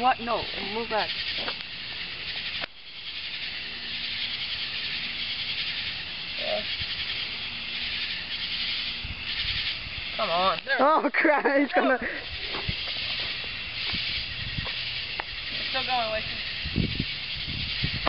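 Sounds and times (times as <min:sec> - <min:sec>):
firecracker fuses hissing: 0:00.0 - 0:10.8, 0:11.6 - 0:18.0.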